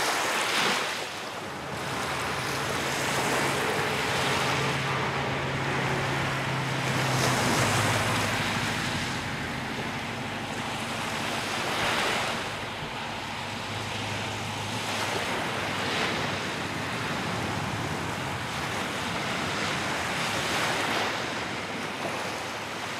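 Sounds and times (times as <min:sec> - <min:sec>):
waves washing onto shore: 0:00.0 - 0:22.9
wind: 0:00.0 - 0:22.9.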